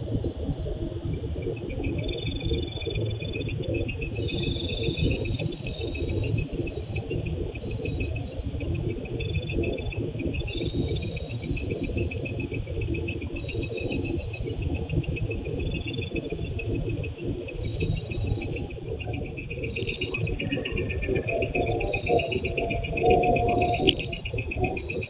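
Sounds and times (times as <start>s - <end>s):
low rumbling noise: 0.0s - 25.0s
crickets chirping: 0.1s - 25.0s.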